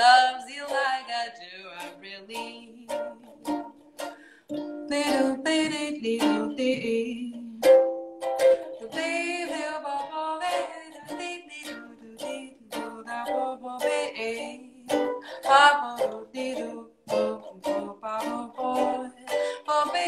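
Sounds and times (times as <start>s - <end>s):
woman singing: 0.0s - 8.0s, 8.7s - 20.0s
strummed ukulele: 0.0s - 20.0s.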